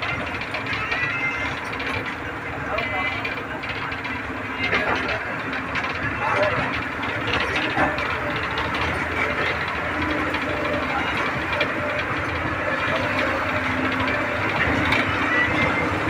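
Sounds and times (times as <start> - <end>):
vehicle engine and tyre rumble: 0.0 - 16.0.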